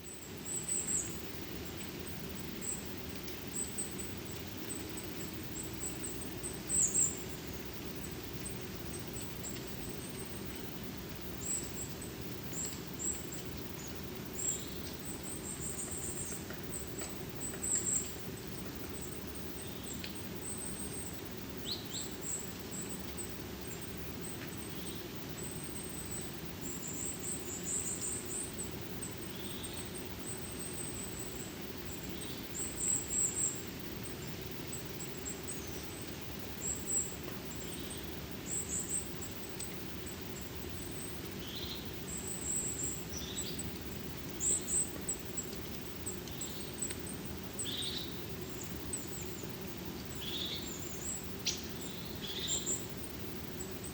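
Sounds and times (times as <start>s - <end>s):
small birds high thin calls: 0.0s - 53.9s.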